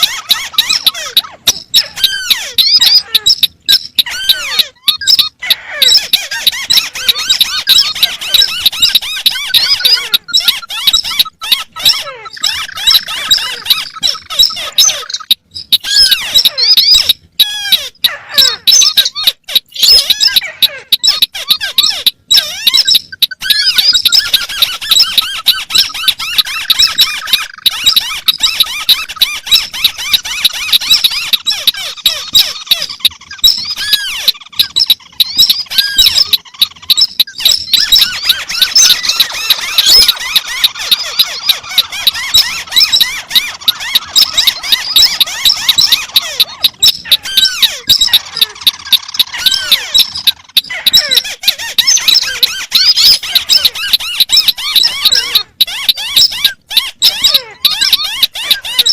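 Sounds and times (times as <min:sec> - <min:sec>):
crakes chattering and trilling: 0:00.0 - 0:58.9.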